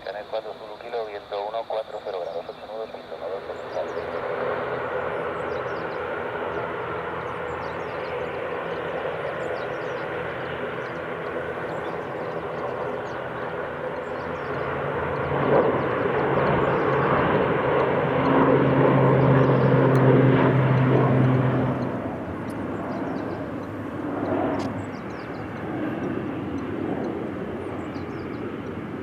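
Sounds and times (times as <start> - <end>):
airliner engines running: 0.0 - 29.0.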